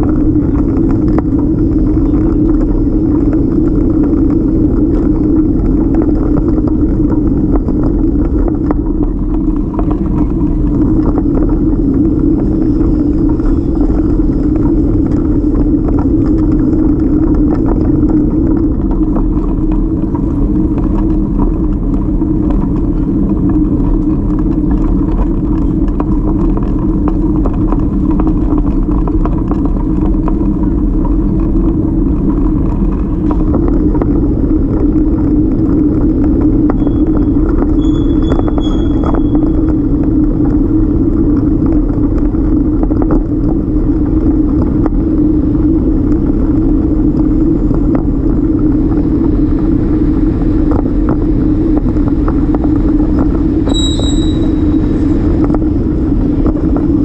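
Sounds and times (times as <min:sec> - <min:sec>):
bike rumbling over paving stones: 0:00.0 - 0:57.0.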